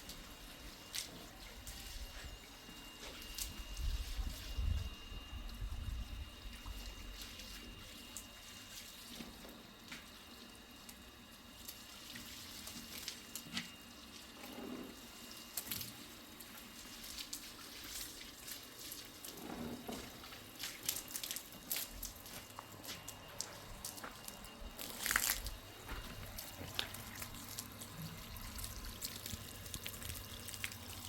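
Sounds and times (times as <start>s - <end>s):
water running at a sink: 3.2s - 31.0s.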